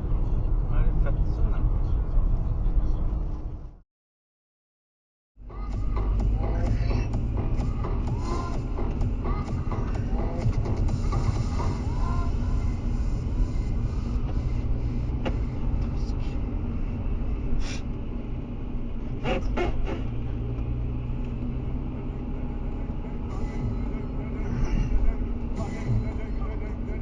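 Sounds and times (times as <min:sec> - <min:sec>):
car engine and road rumble: 0:00.0 - 0:03.8, 0:05.4 - 0:27.0.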